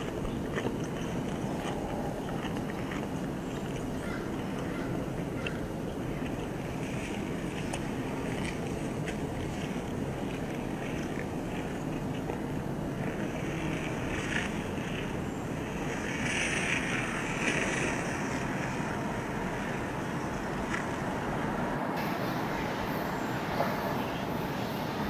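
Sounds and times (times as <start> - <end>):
outdoor rushing background noise: 0.0 - 25.0.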